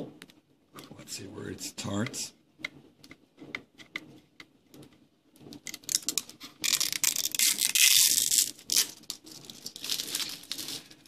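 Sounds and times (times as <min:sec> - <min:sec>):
tape peeled with loud crackling: 0:00.0 - 0:11.0.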